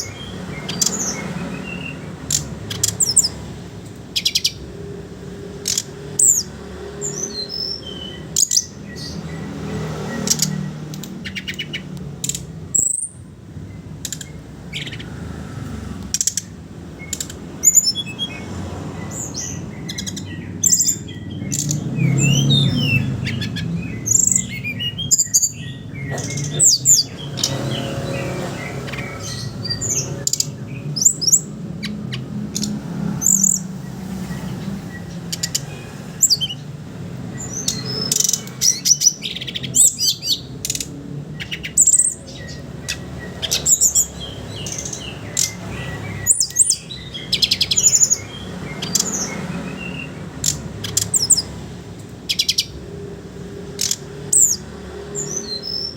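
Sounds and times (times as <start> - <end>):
flycatcher singing: 0.0 - 55.9.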